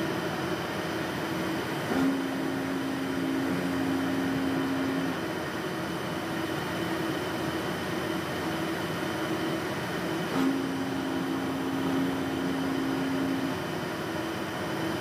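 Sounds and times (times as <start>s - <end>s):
air conditioning machinery whir: 0.0s - 15.0s.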